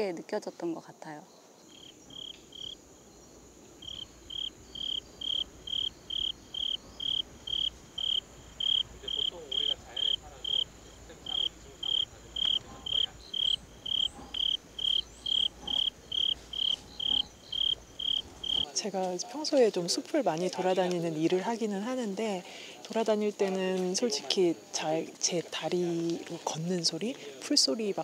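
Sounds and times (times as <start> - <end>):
cricket chirping: 0.0 - 22.6.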